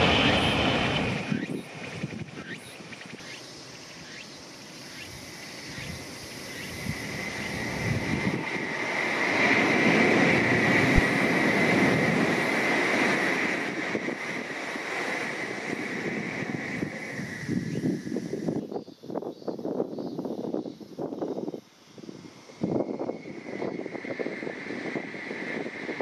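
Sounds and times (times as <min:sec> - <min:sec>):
bullet train passing with hiss: 0:00.0 - 0:26.0.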